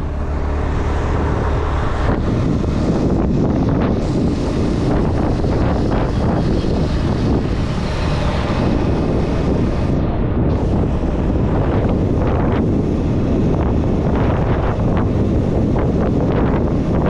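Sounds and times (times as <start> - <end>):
motorbike engine: 0.0 - 17.0
road noise: 0.0 - 17.0
wind buffeting microphone: 0.0 - 17.0.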